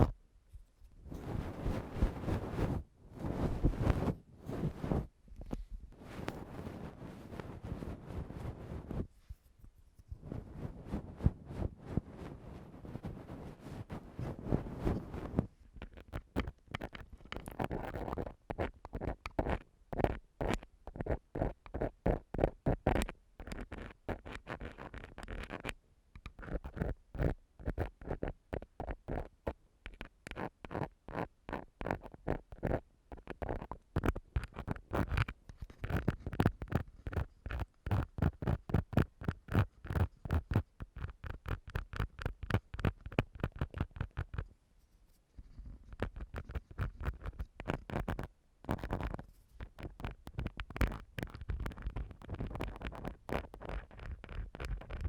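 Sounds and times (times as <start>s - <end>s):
ear-cleaning tool scratching microphone: 1.1s - 5.1s, 6.0s - 9.1s, 10.2s - 44.4s, 45.6s - 55.0s.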